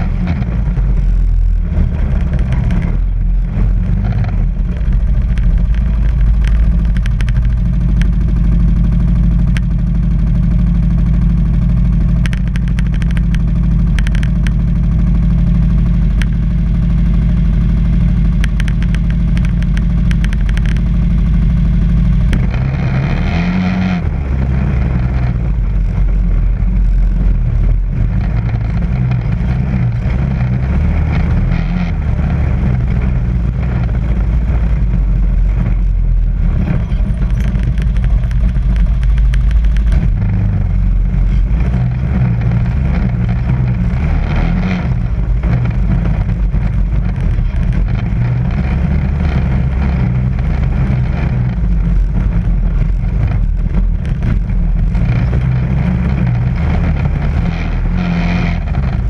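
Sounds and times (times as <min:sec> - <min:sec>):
clicks and clatter: 0:00.0 - 0:59.0
quad bike engine running: 0:00.0 - 0:59.0.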